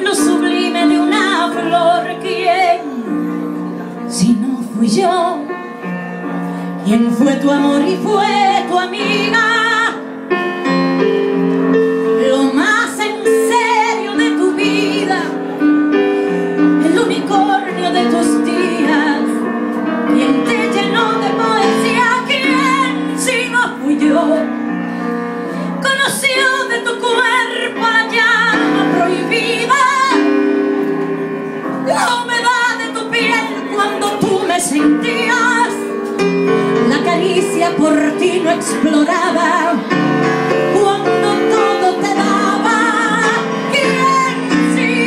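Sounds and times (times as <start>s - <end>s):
woman singing a slow ballad: 0.0s - 3.0s, 4.0s - 5.8s, 6.8s - 10.1s, 12.1s - 15.7s, 16.6s - 24.6s, 25.8s - 30.4s, 31.9s - 39.9s, 40.6s - 45.0s.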